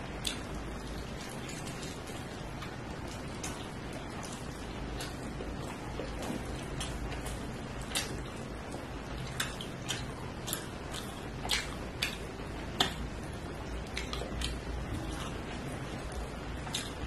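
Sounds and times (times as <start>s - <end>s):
chewing with wet clicks: 0.0s - 17.0s.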